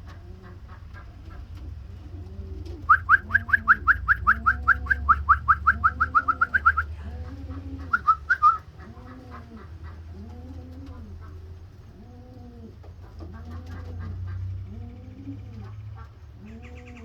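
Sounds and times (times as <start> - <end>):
low steady hum: 0.0 - 17.0
pigeons cooing: 0.0 - 17.0.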